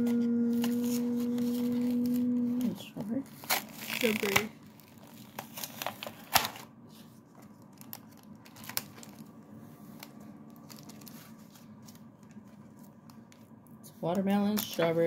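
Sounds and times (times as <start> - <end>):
low steady hum: 0.0 - 15.0
plastic packaging crinkling: 0.6 - 13.6.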